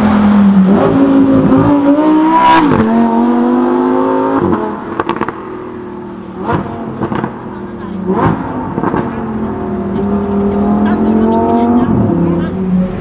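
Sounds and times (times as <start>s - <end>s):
sports car engine revving: 0.0s - 13.0s.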